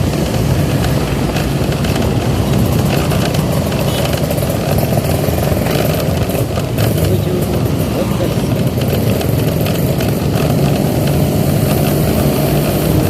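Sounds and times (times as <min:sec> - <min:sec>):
motorcycle engine running: 0:00.0 - 0:13.0
steady rush of noise: 0:00.0 - 0:13.0.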